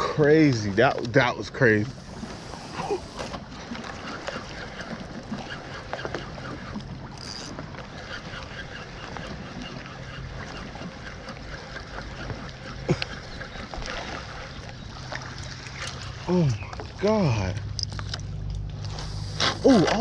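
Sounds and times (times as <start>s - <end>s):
water lapping and trickling: 0.0s - 20.0s
ticks and knocks against hull: 0.5s - 20.0s.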